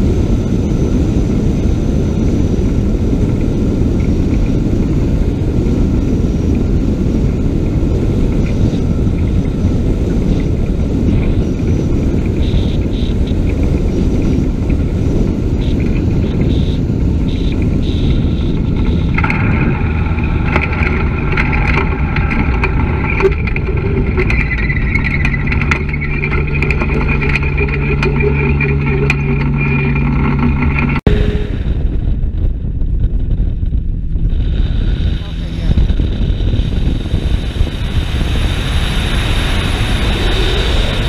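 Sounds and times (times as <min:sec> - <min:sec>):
ultralight engine and propeller: 0:00.0 - 0:41.0
wind noise on microphone: 0:00.0 - 0:41.0.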